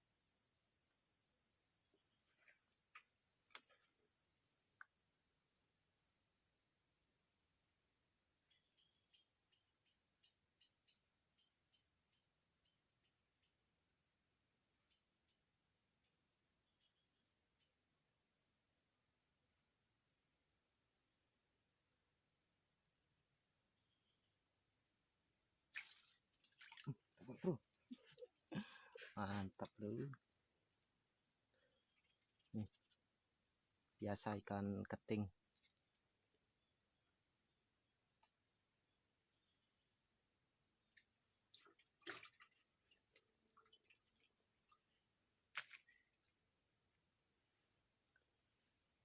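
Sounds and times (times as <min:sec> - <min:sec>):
insects buzzing: 0:00.0 - 0:49.0.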